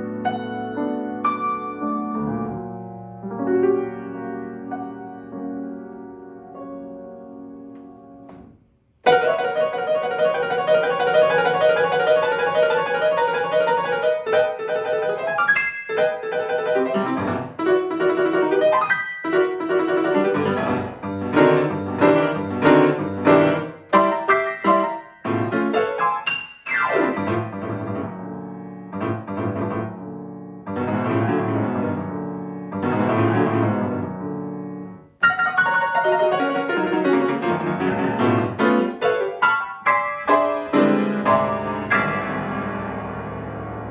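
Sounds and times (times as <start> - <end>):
solo piano playing: 0.0 - 43.9.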